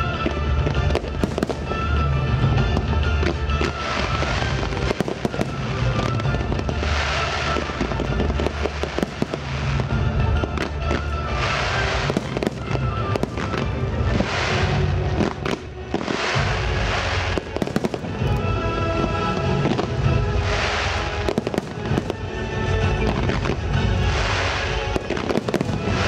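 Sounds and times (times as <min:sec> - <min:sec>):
fireworks bangs and crackles: 0:00.0 - 0:26.0
music soundtrack: 0:00.0 - 0:26.0
fireworks hissing: 0:01.0 - 0:02.2, 0:02.8 - 0:26.0.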